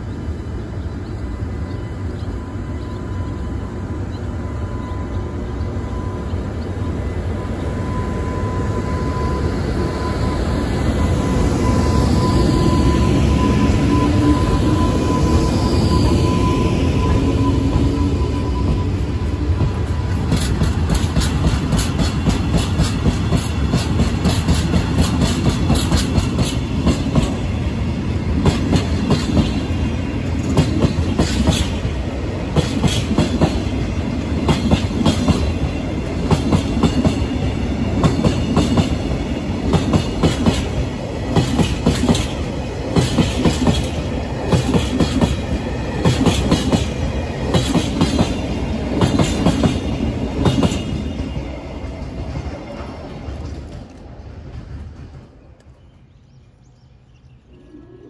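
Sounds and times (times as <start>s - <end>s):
train rumble: 0.0s - 57.2s.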